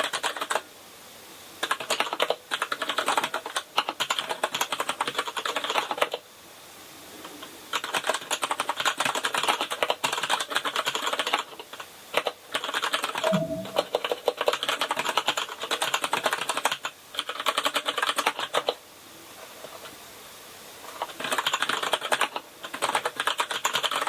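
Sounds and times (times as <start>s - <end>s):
mechanical keyboard typing: 0.0s - 0.6s, 1.6s - 6.2s, 7.7s - 18.8s, 21.0s - 24.0s.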